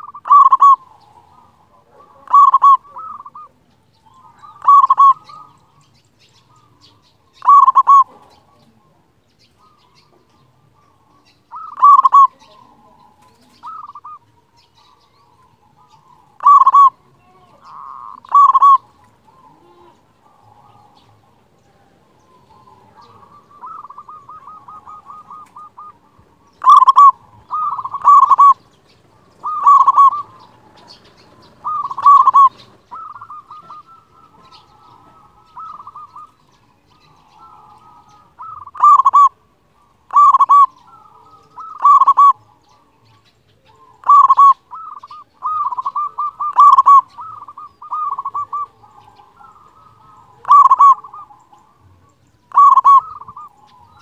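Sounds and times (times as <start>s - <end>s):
soft trilled cooing: 0.0s - 5.8s, 6.6s - 9.0s, 9.7s - 54.0s
dove cooing: 0.0s - 54.0s.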